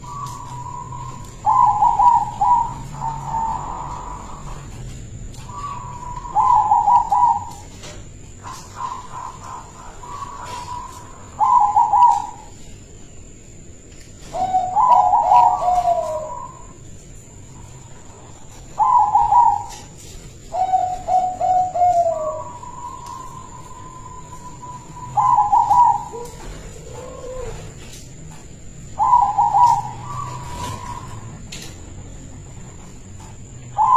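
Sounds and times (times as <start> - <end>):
dove cooing: 0.0 - 12.7, 14.2 - 33.9.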